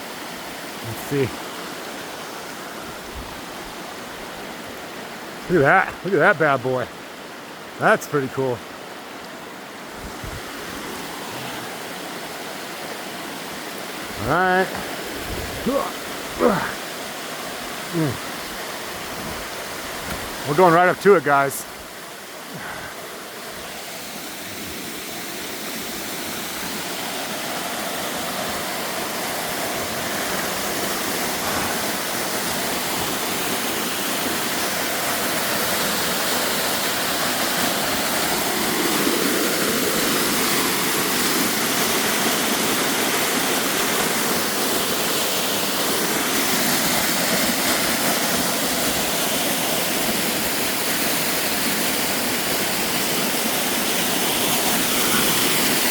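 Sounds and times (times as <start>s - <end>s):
stream water: 0.0s - 55.9s
waterfall rushing: 0.0s - 55.9s.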